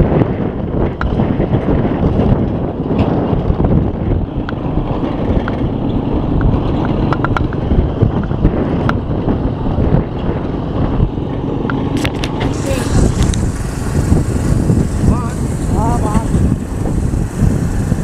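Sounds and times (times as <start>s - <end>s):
motorcycle engine running: 0.0s - 18.0s
wind buffeting microphone: 0.0s - 18.0s
tyre noise: 1.6s - 18.0s.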